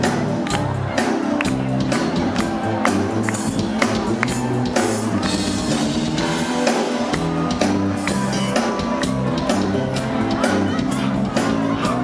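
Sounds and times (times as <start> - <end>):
bass guitar: 0.0 - 12.0
drum kit: 0.0 - 12.0.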